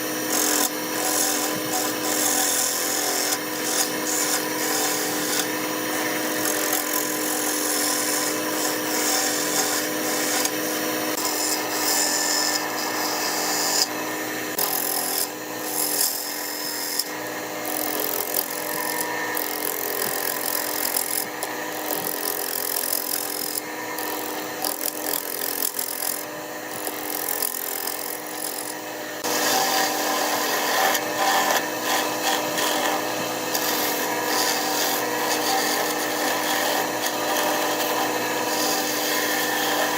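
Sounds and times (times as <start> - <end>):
lathe motor hum: 0.0 - 39.9
tool scraping spinning wood: 0.0 - 39.9.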